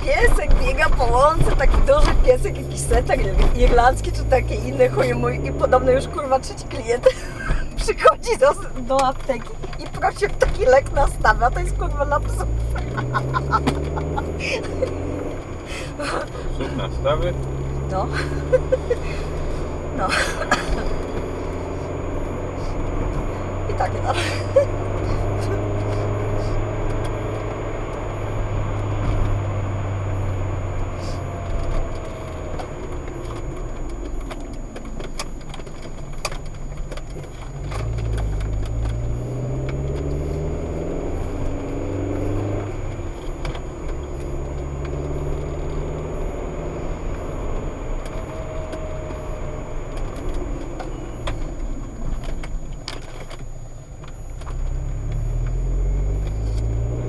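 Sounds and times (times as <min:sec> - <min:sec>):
light clicks and rattles: 0:00.0 - 0:28.1, 0:30.9 - 0:57.0
car engine accelerating: 0:00.0 - 0:57.0
road noise inside car: 0:00.0 - 0:57.0.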